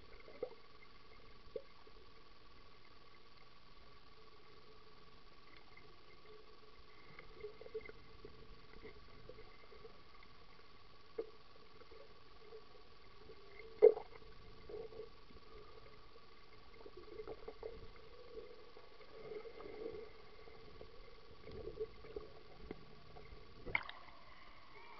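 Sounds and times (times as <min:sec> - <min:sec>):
underwater gurgles: 0:00.0 - 0:24.9
underwater hum: 0:00.0 - 0:24.9.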